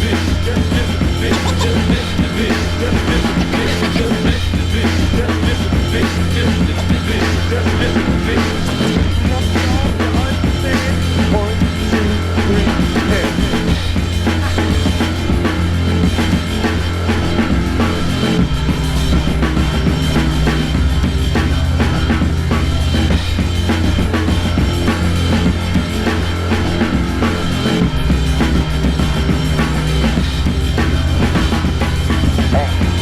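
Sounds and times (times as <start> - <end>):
drum kit: 0.0 - 33.0
rock music: 0.0 - 33.0
sustained bass line: 0.0 - 33.0.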